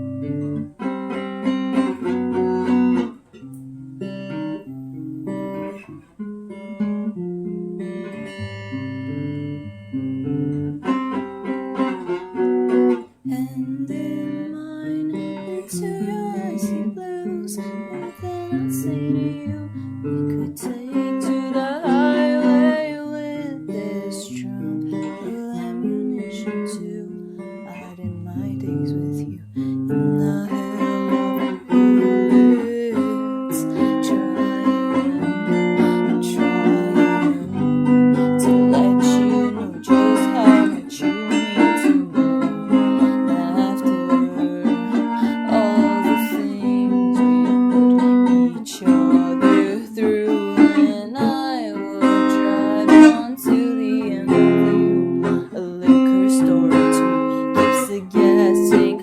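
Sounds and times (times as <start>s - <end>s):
acoustic guitar strumming and plucking: 0.0s - 59.0s.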